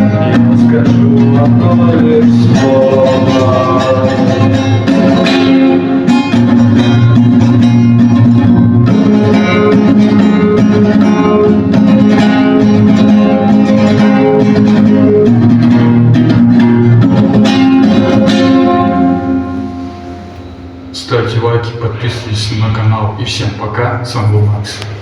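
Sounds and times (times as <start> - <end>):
guitar strumming chords: 0.0 - 23.2.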